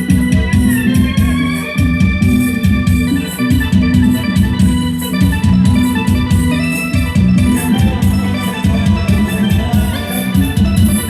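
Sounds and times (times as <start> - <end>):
electronic organ melody: 0.0 - 11.0
heavy bass line: 0.0 - 11.0
steady drum beat: 0.0 - 11.0.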